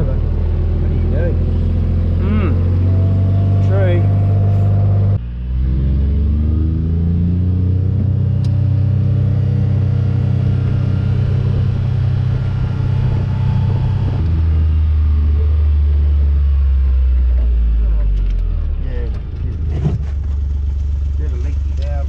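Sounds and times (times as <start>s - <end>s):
vehicle engine pulling away: 0.0s - 22.0s.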